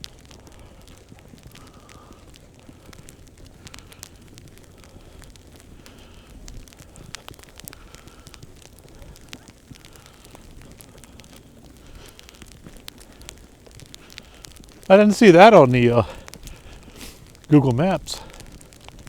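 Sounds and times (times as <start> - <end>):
sleet pellets ticking: 0.0 - 19.0.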